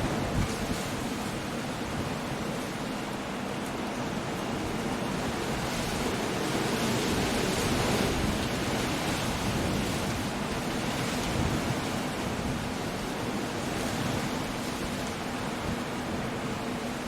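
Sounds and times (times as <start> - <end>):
surf rushing on rocks: 0.0 - 17.0
wind: 0.0 - 17.0.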